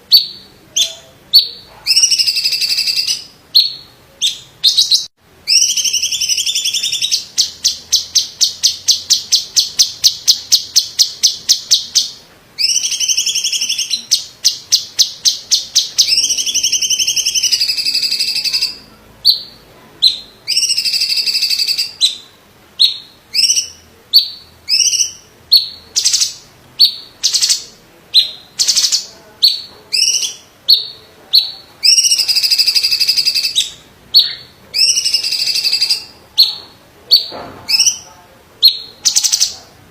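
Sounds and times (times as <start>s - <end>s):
bird singing loudly: 0.0s - 39.6s.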